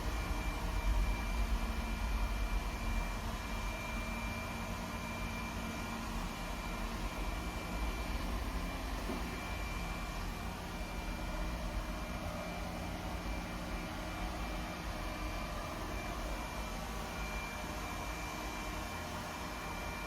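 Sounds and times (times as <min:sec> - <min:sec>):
thin high whine: 0:00.0 - 0:20.0.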